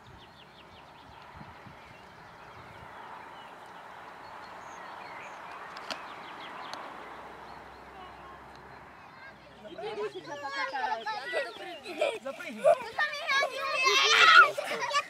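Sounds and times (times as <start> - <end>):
birds chirping and calling: 0.0 - 13.0
steady outdoor hiss: 0.0 - 15.0.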